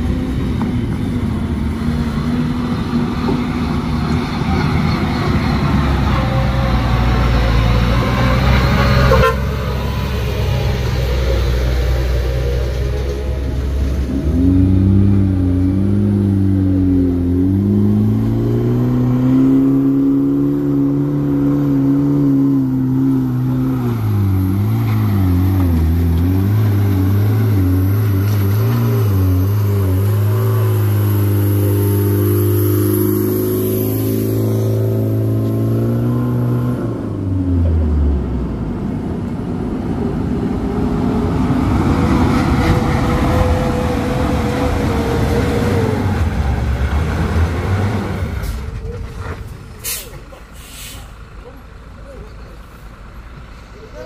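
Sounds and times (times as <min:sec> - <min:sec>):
diesel truck engine climbing: 0:00.0 - 0:54.0.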